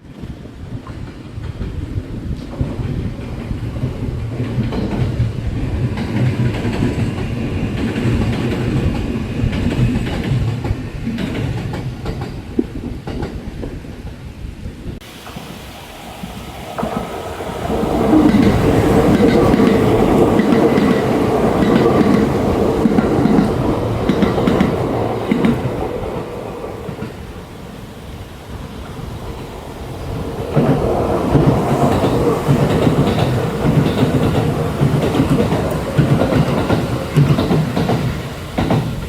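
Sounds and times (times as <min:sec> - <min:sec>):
train wheels clacking over rail joints: 0:00.1 - 0:14.0, 0:15.1 - 0:27.3, 0:29.9 - 0:39.0.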